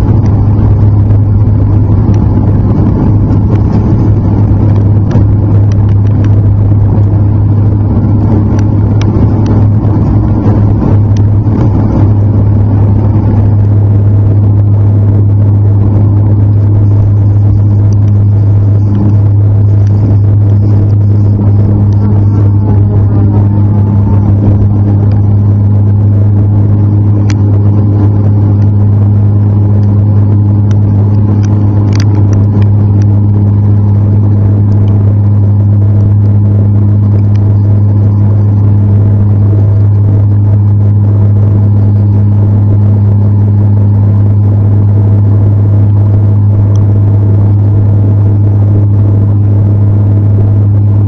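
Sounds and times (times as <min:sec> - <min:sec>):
turboprop engines droning in cabin: 0:00.0 - 0:51.0.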